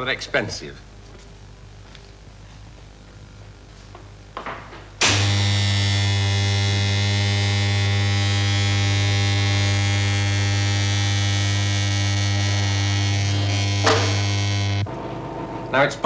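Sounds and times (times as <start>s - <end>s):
deep mains hum: 0.0s - 16.0s.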